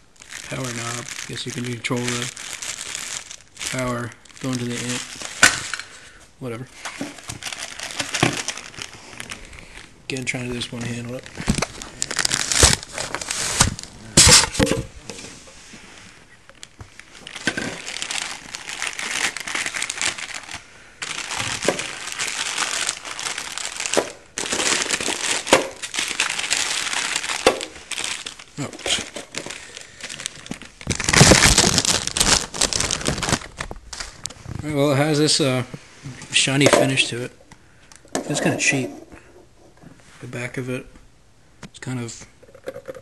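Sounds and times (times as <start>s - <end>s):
packaging crinkling and rustling: 0.1s - 6.0s, 6.6s - 35.4s.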